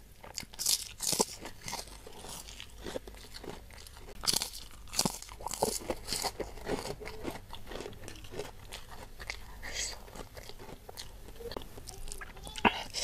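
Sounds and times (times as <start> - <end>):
crunching crisp crackers: 0.0 - 13.0.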